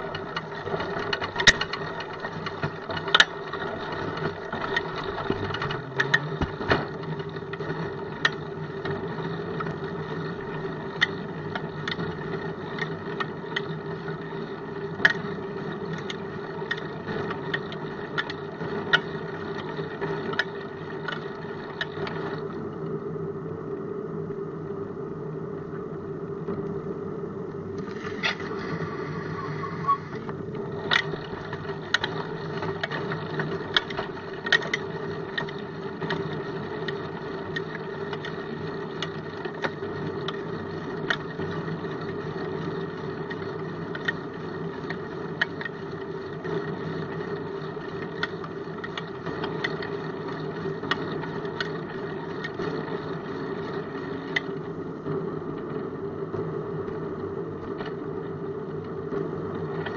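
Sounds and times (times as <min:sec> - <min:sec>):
bicycle rolling over asphalt: 0:00.0 - 0:59.9.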